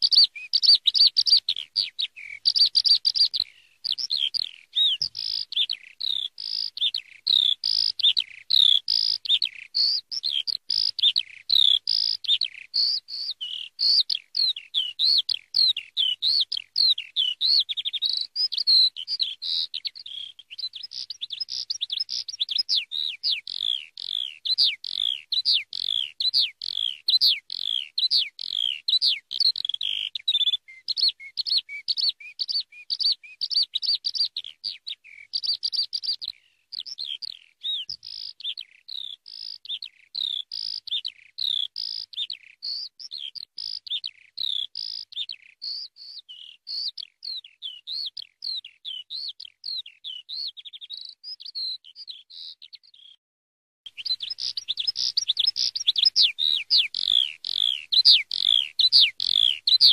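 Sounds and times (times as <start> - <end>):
skylark singing: 0.0 - 53.2, 53.9 - 59.9.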